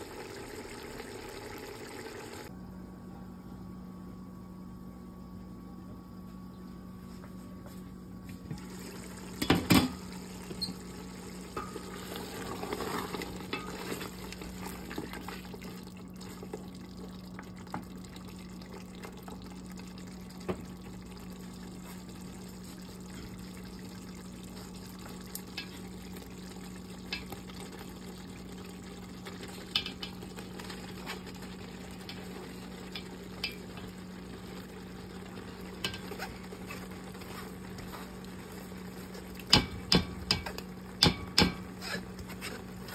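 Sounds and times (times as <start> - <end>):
steady low hum: 0.0 - 42.9
curry simmering with pops: 8.4 - 42.9.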